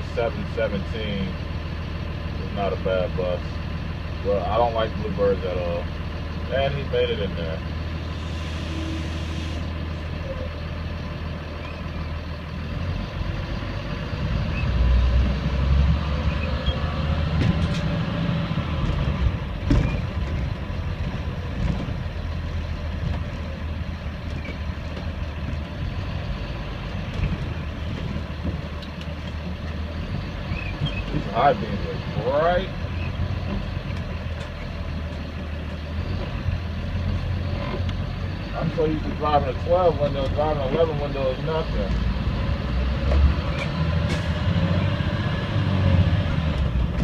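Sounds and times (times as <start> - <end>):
bus diesel engine running: 0.0 - 47.0.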